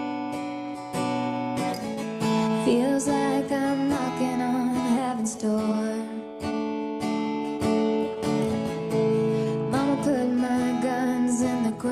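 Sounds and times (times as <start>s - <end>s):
slow acoustic guitar song: 0.0s - 11.9s.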